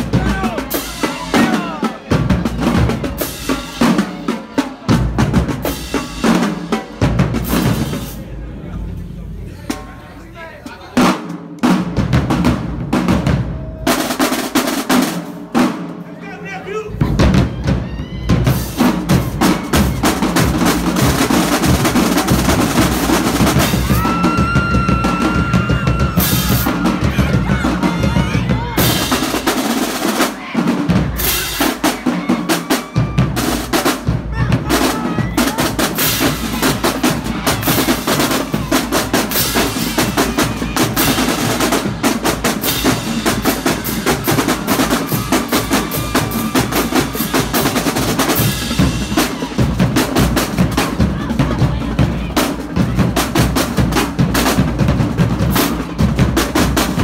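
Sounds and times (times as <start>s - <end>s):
snare and bass drums: 0.0s - 8.2s, 11.0s - 16.0s, 17.0s - 57.0s.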